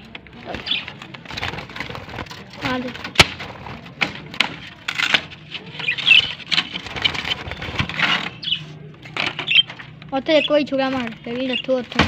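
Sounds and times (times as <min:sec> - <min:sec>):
scraping and scuffling in coop: 0:00.0 - 0:12.0.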